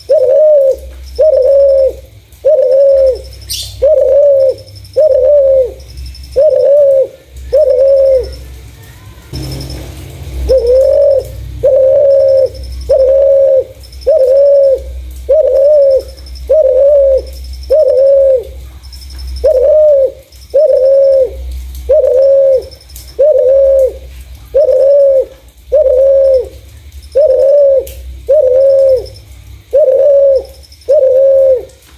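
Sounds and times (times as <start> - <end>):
dove cooing: 0.0 - 9.8, 10.4 - 31.9.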